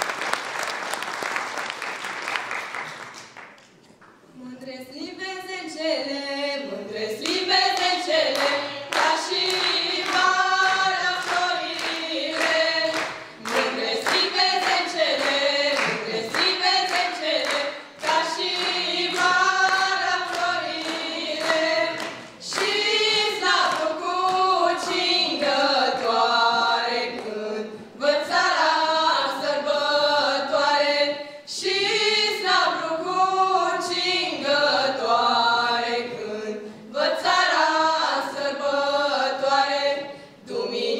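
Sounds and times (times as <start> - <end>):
women singing in harmony: 4.4 - 40.9.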